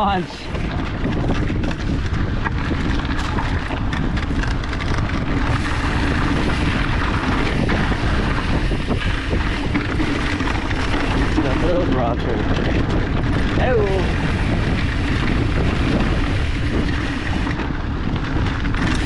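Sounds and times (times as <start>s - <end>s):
bike clicks and rattles: 0.0s - 19.0s
tyre rumble on dirt: 0.0s - 19.0s
wind on microphone: 0.0s - 19.0s.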